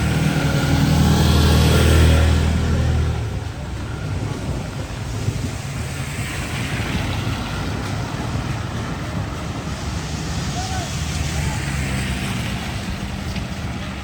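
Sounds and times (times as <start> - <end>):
low engine rumble: 0.0 - 14.0
passing vehicle engine: 0.0 - 14.0
traffic: 0.0 - 14.0
wind: 0.0 - 14.0.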